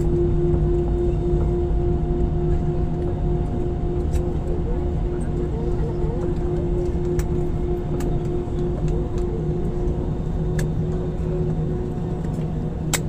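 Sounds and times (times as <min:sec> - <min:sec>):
constant hum: 0:00.0 - 0:13.0
low engine rumble: 0:00.0 - 0:13.0.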